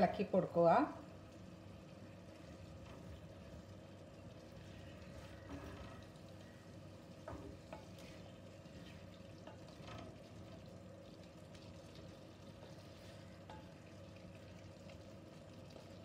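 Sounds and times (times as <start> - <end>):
low sizzle: 0.0 - 16.0.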